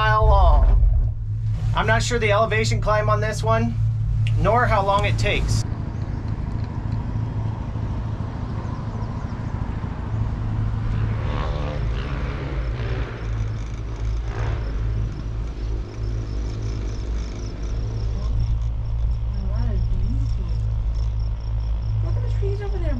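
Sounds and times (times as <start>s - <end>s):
gondola cabin rumbling: 0.0s - 22.9s.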